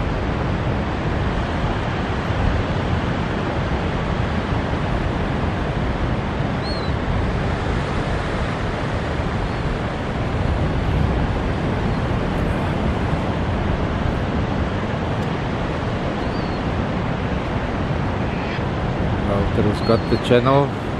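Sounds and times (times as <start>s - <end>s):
surf rushing: 0.0s - 20.9s
wind on microphone: 0.0s - 20.9s.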